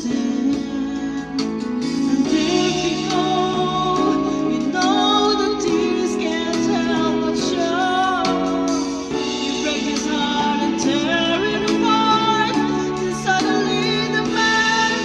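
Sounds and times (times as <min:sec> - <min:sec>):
backing music: 0:00.0 - 0:15.0
woman singing into microphone: 0:00.0 - 0:15.0.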